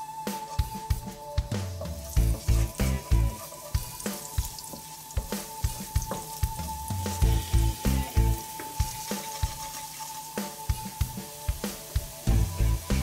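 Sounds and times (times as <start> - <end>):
background music drum beat: 0.0 - 13.0
garlic sizzling in oil: 0.1 - 13.0
spatula stirring in wok: 0.3 - 12.7.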